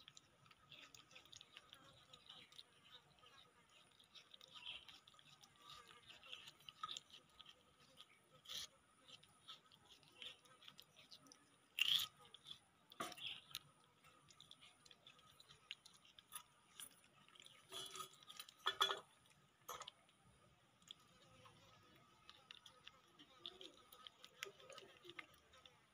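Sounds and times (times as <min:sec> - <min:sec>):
monkeys chewing melon: 0:00.0 - 0:25.9.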